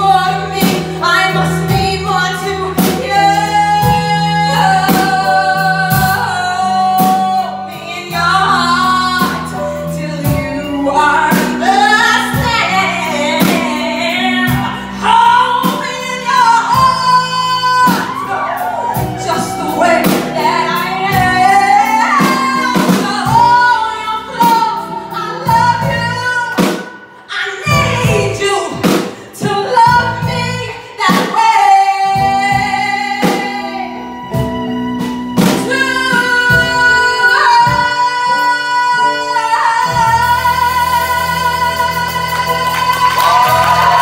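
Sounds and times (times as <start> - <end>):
drums: 0.0 - 44.0
piano: 0.0 - 44.0
woman singing a ballad: 0.0 - 44.0.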